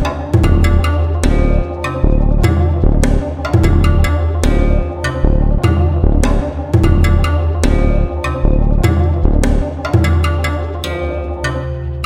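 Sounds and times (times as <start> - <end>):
held low bass: 0.0 - 9.7.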